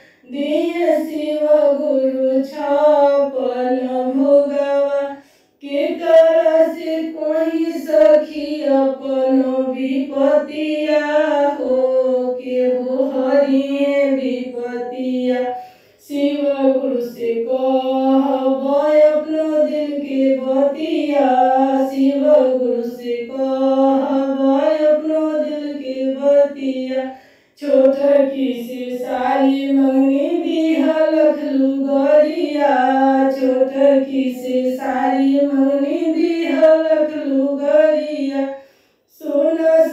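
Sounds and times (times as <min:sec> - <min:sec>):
woman singing devotional song: 0:00.0 - 0:39.9.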